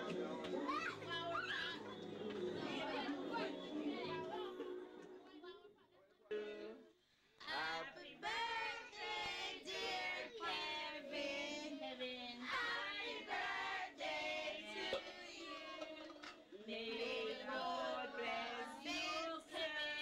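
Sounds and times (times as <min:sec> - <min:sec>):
group of voices singing: 0:00.0 - 0:05.3, 0:07.4 - 0:20.0.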